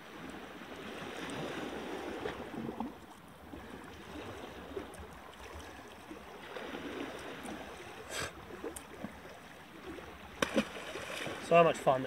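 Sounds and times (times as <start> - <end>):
water lapping against rocky shore: 0.0 - 12.0.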